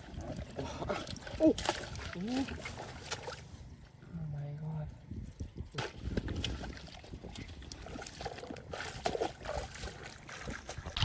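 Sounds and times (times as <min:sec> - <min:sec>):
muddy water splashing: 0:00.0 - 0:04.0, 0:05.6 - 0:11.0.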